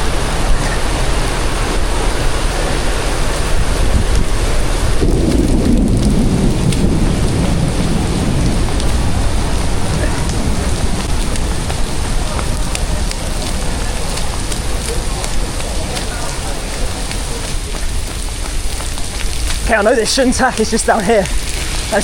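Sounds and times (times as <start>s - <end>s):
heavy rain pouring: 0.0s - 22.0s
low thunder rumble: 0.0s - 22.0s.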